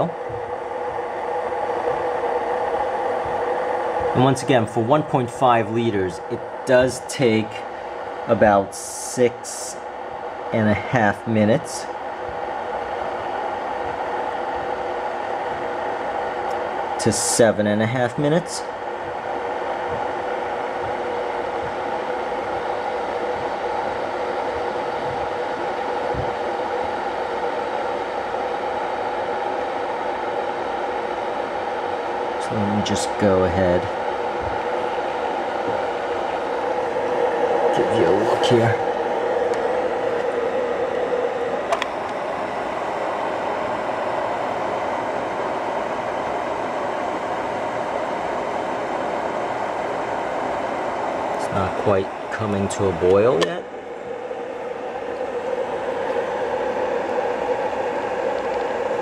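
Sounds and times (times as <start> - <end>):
electric kettle heating water: 0.0 - 59.0.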